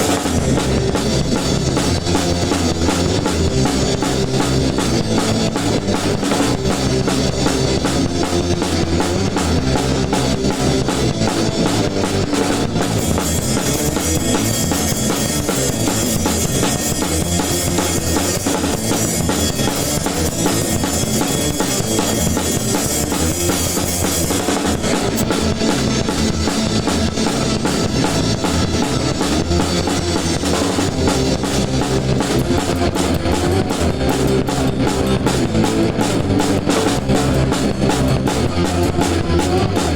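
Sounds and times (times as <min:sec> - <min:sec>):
drum kit beat: 0:00.0 - 0:39.9
electric guitar: 0:00.0 - 0:39.9
ska band playing: 0:00.0 - 0:39.9.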